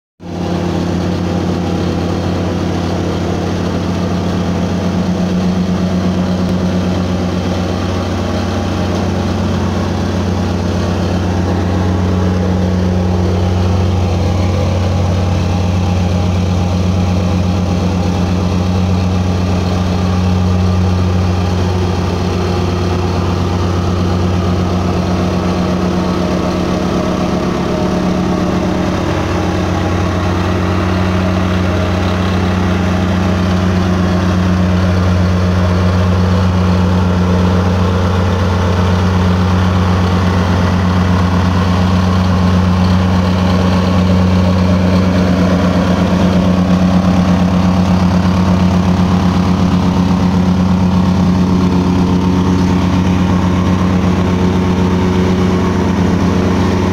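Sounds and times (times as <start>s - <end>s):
plate compactor engine droning: 0.2s - 56.9s.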